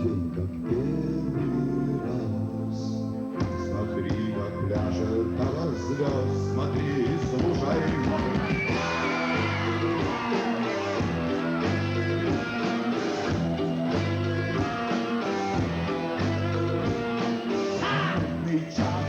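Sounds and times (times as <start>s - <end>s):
electric guitar lead line: 0.0s - 19.0s
rock band playing live: 3.4s - 19.0s.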